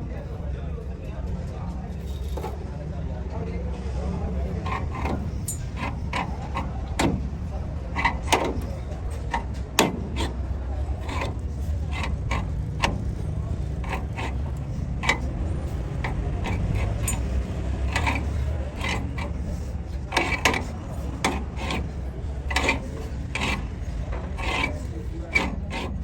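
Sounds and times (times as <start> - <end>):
steady low hum: 1.9 - 26.0
hand file scraping on steel: 4.2 - 26.0.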